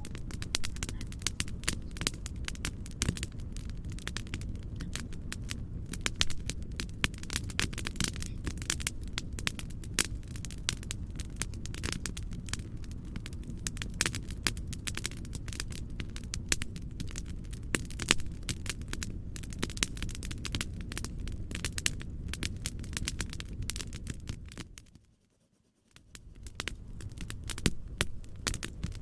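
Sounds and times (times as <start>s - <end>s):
wood fire crackling: 0.0s - 25.1s, 25.9s - 29.0s
low steady noise: 0.0s - 29.0s.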